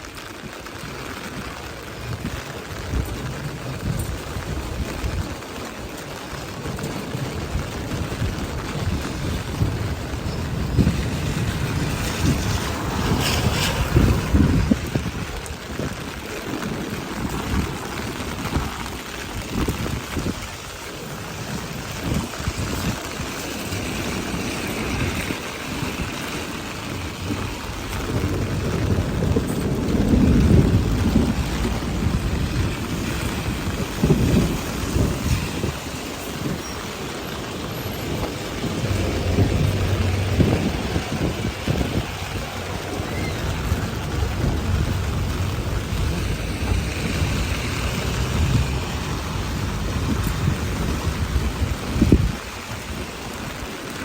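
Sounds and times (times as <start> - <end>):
steady rain hiss: 0.0 - 54.0
low gusty rumble: 1.3 - 54.0.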